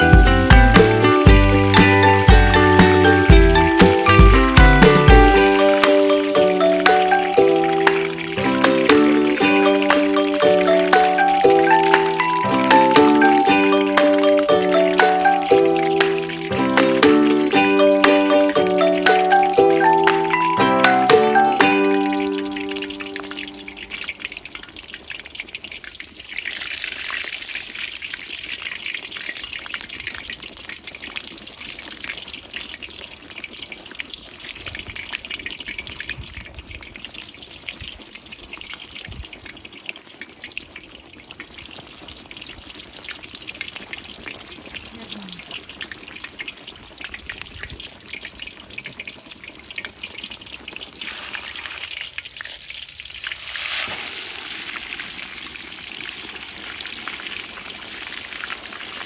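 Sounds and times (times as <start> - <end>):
sizzling in hot oil: 0.0 - 59.0.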